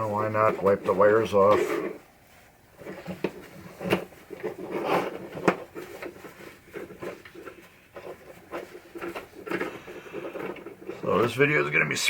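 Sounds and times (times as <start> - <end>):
rag rubbing on wiring: 0.0 - 12.0.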